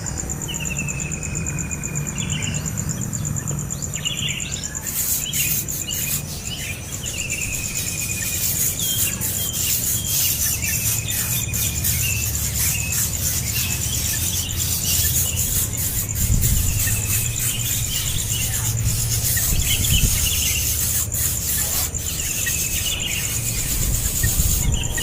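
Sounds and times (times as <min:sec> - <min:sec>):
pulsing insect trill: 0:00.0 - 0:25.0.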